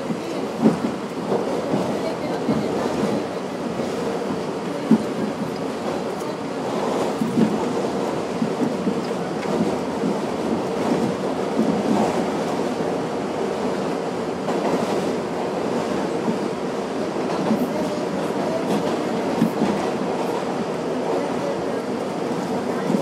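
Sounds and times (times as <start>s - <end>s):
subway wheel and track noise: 0.0s - 23.0s.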